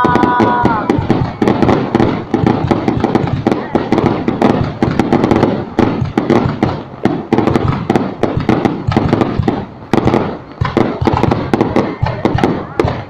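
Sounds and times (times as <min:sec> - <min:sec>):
fireworks bangs with rumbling echo: 0:00.0 - 0:13.0.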